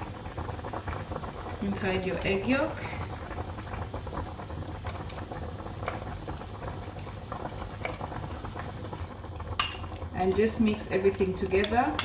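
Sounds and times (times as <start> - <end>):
pot of water boiling: 0.0 - 12.0.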